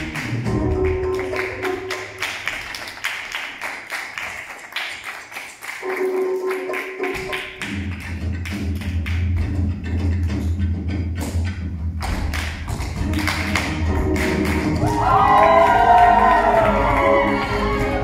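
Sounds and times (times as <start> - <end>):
upbeat show music: 0.0 - 4.4, 5.6 - 18.0
rhythmic hand clapping: 0.0 - 18.0.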